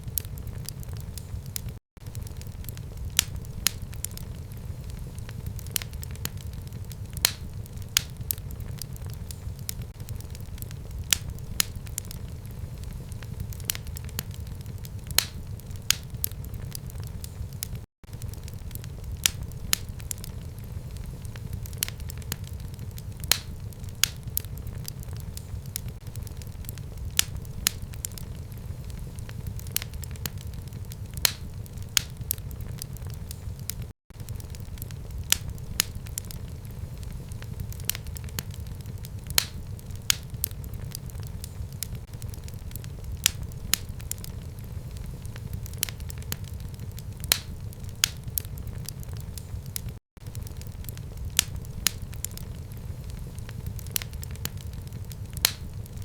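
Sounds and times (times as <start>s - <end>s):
fireplace fire crackling: 0.0s - 56.0s
low rumble of flames: 0.0s - 56.0s.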